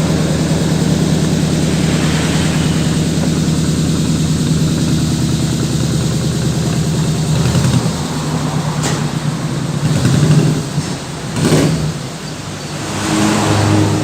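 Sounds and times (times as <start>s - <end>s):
engine running with a rev: 0.0s - 14.0s.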